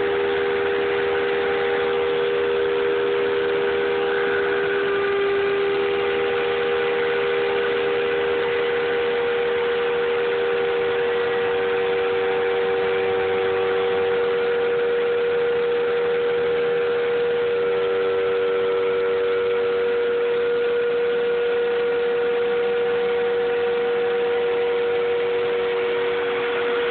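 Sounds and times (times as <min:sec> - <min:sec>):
router spindle whining: 0:00.0 - 0:26.9.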